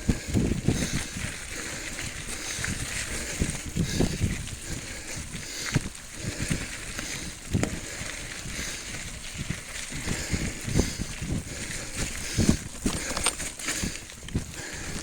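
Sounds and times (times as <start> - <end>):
bicycle knocking and rattling over bumps: 0.0 - 15.0
wind rumble on microphone: 0.0 - 15.0.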